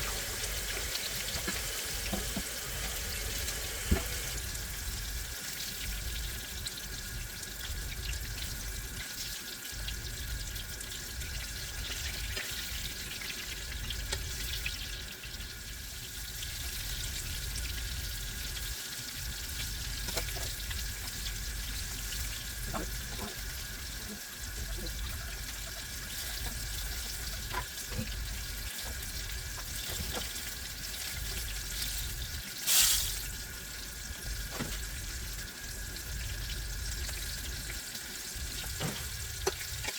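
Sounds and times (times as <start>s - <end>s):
food sizzling in hot grease: 0.0s - 39.9s.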